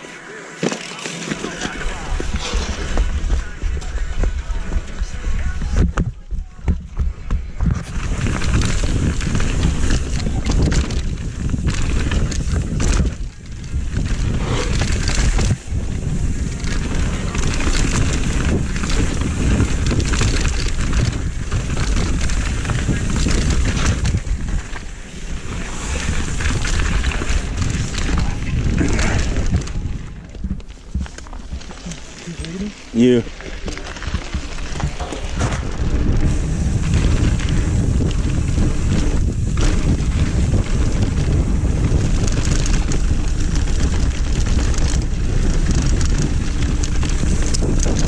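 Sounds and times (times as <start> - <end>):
tyres crunching over dirt: 0.0 - 48.0
bike knocking and rattling: 0.5 - 48.0
wind on microphone: 1.9 - 48.0.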